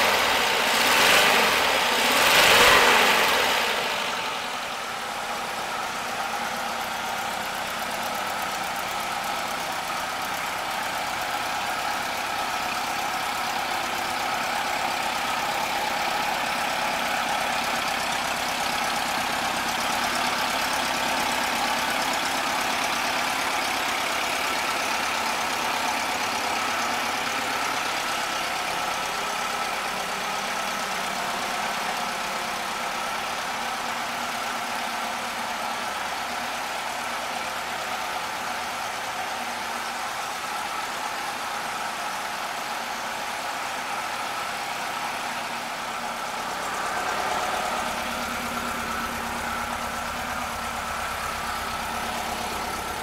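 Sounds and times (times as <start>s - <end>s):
air-cooled engine idling: 0.0s - 53.0s.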